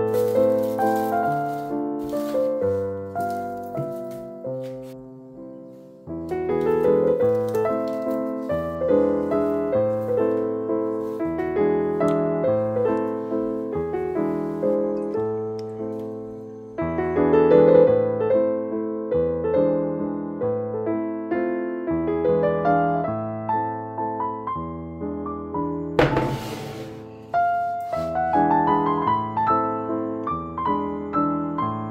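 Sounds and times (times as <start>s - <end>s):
gentle piano melody: 0.0s - 31.9s.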